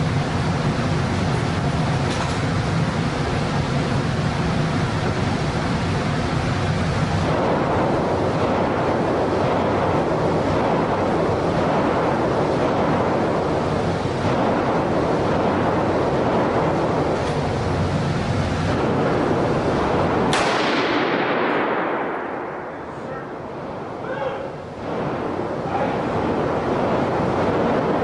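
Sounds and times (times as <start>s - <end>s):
ventilation air rushing: 0.0s - 28.0s.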